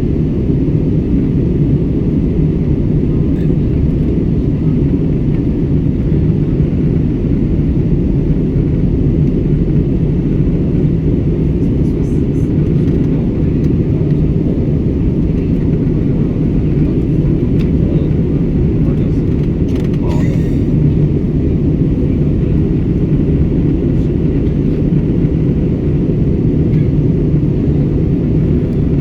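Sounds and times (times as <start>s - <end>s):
airliner cabin jet engine drone: 0.0s - 29.0s.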